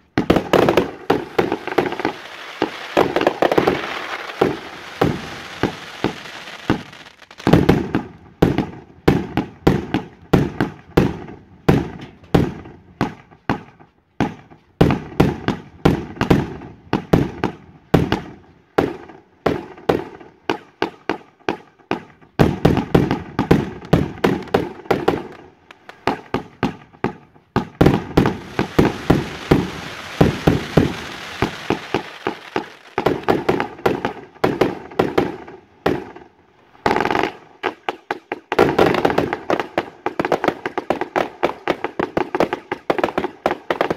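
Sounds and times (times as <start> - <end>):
fireworks volleys and bangs: 0.0 - 43.9.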